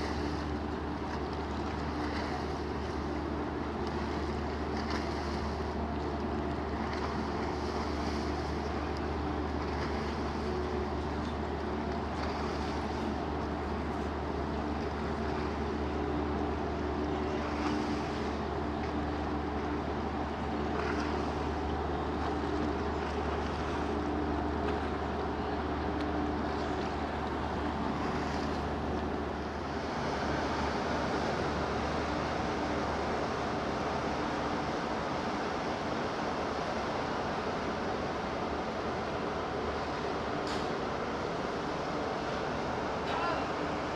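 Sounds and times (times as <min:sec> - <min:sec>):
ship machinery low hum: 0:00.0 - 0:43.9
water noise: 0:00.0 - 0:43.9
wind: 0:00.0 - 0:43.9.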